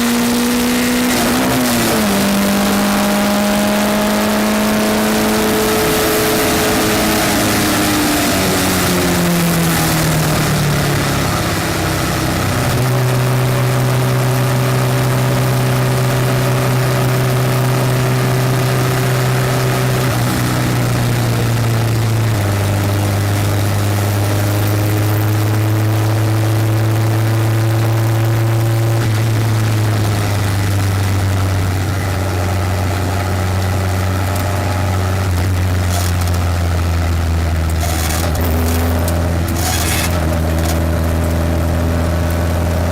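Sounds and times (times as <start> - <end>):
race car engine at high revs: 0.0 - 42.9
road noise: 0.0 - 42.9.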